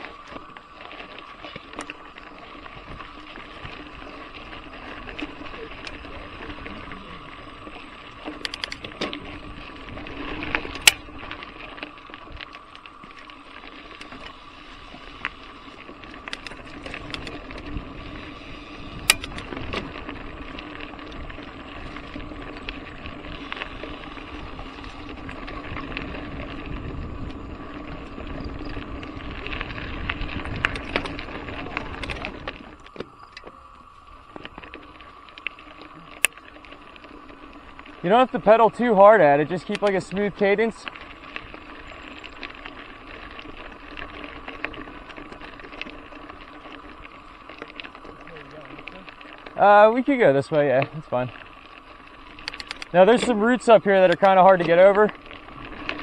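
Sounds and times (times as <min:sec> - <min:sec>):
bike rattling and clicking: 0:00.0 - 0:56.0
bike tyres rumbling on gravel: 0:00.0 - 0:56.0.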